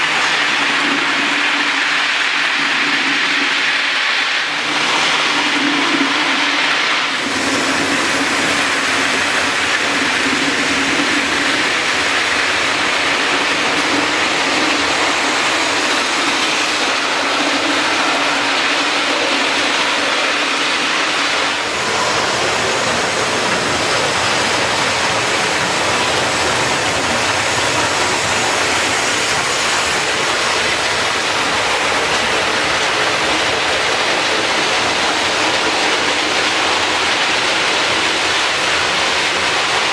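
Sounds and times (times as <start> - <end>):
model train wheels rolling on rail: 0.0 - 39.9.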